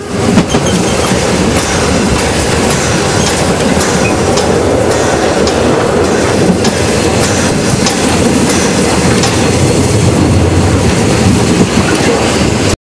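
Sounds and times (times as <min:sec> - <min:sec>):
train wheels rumbling on rails: 0:00.0 - 0:12.8.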